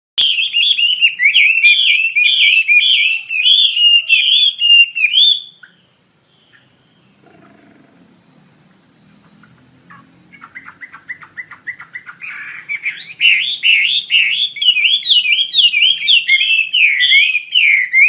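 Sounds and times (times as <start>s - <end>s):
bird singing whistled phrases: 0.2s - 7.2s, 9.9s - 18.0s.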